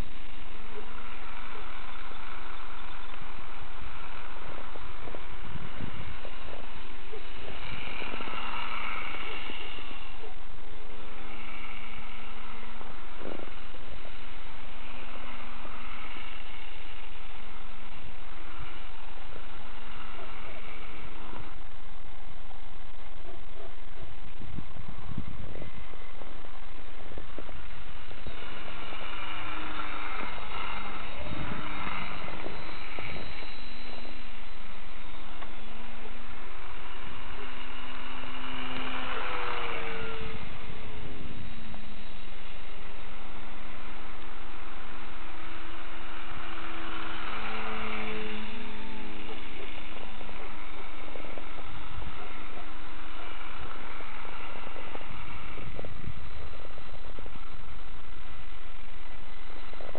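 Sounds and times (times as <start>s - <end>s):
propeller plane flying overhead: 0.0s - 59.9s
vehicle engine running: 0.0s - 59.9s
wind rushing over microphone: 0.0s - 59.9s.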